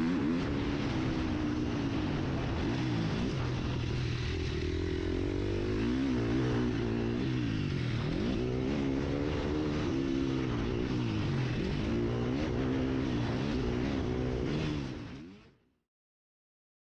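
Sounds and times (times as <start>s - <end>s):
motocross engine revving: 0.0s - 15.5s.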